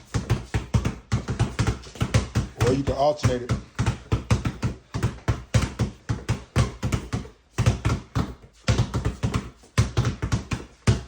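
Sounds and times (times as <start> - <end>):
basketballs dribbled on concrete: 0.0 - 11.0.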